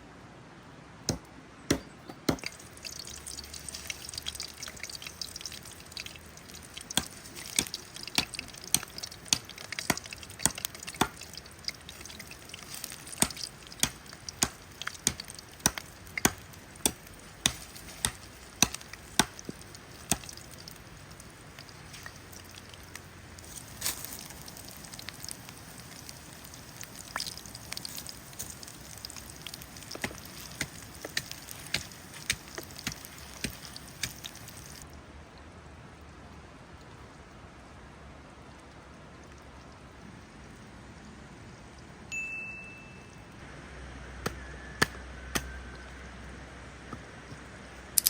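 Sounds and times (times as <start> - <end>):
soft steady hiss: 0.0 - 48.0.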